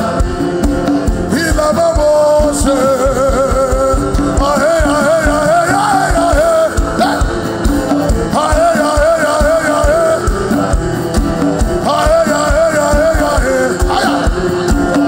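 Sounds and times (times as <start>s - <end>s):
band with steady drum beat: 0.0s - 15.0s
person singing with vibrato: 0.0s - 15.0s.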